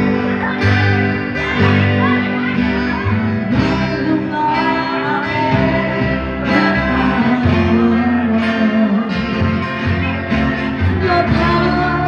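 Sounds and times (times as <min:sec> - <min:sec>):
live guitar music: 0:00.0 - 0:12.0
person singing: 0:00.0 - 0:12.0.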